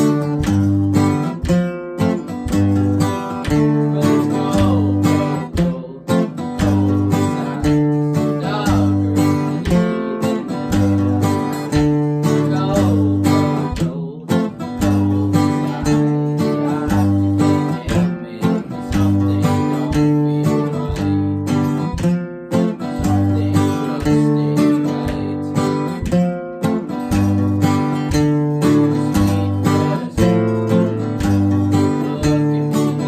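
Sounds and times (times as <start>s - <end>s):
acoustic guitars strumming chords: 0.0s - 33.0s.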